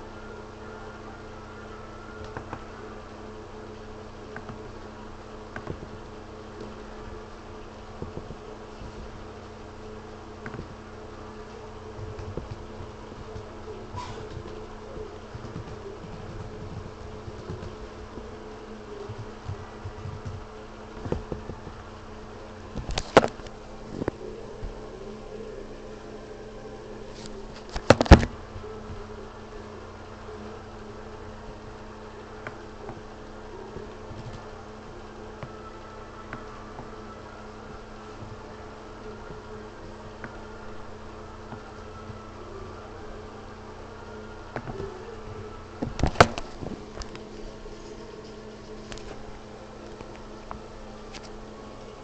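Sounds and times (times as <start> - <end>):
low buzzing hum: 0.0 - 52.0.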